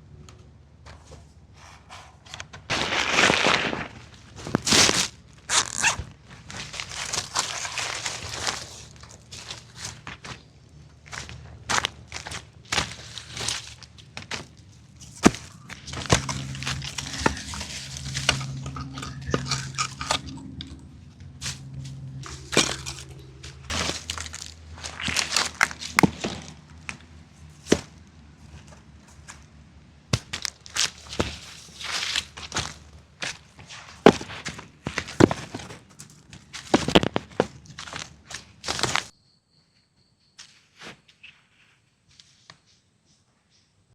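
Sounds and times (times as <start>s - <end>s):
low steady hum: 0.0s - 39.1s
sticks and twigs snapping: 2.3s - 39.1s.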